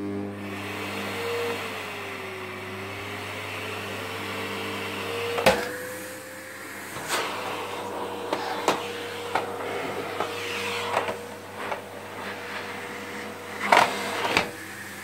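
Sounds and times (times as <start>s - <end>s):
vacuum cleaner humming: 0.0s - 15.0s.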